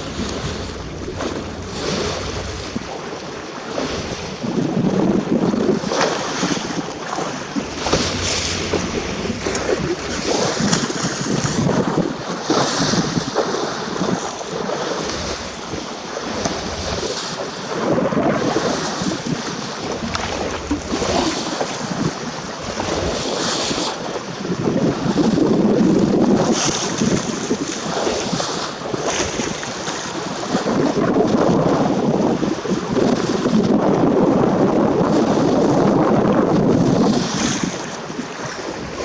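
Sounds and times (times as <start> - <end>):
sea water rushing along hull: 0.0 - 39.0
wind buffeting microphone: 0.0 - 39.0.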